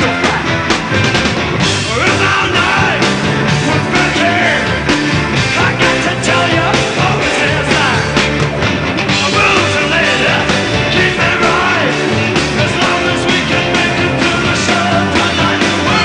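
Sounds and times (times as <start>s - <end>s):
bass guitar: 0.0s - 16.0s
drum kit with cymbal strokes: 0.0s - 16.0s
electric guitar: 0.0s - 16.0s.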